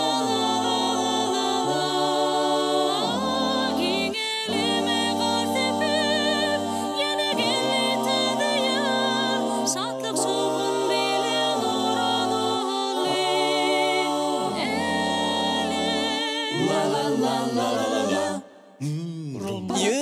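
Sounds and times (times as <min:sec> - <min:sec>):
a cappella group singing chords: 0:00.0 - 0:18.8, 0:19.4 - 0:20.0.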